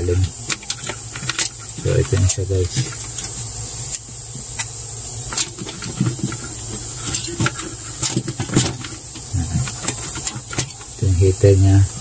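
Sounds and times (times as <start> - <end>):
steady high hiss: 0.0 - 12.0
hands handling metal coil clicks: 0.2 - 11.0.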